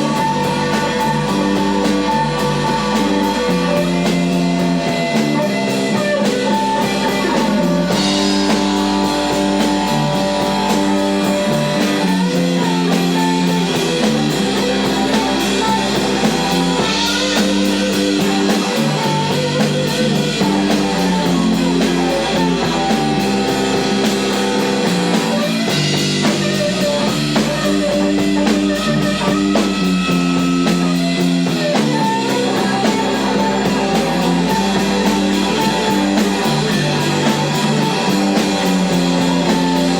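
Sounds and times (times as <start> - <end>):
drums: 0.0 - 39.9
electric guitar riff: 0.0 - 39.9.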